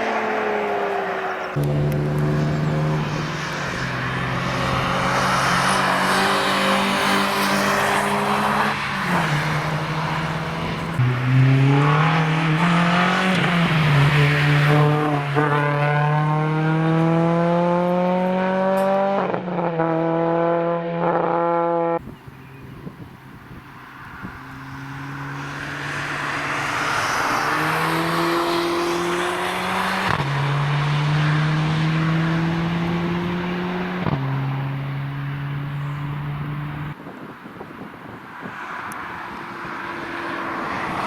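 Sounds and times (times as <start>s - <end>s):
car engine accelerating with upshifts: 0.0s - 37.0s.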